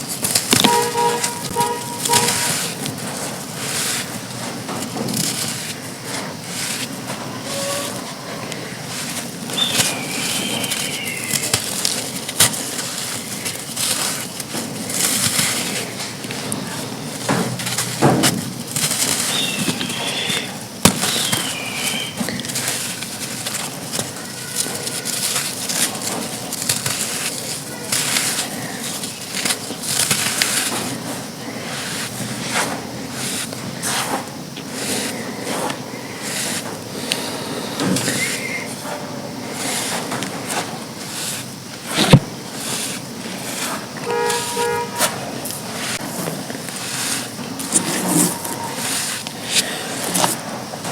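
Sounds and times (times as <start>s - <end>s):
dry sand crunching: 0.0s - 50.9s.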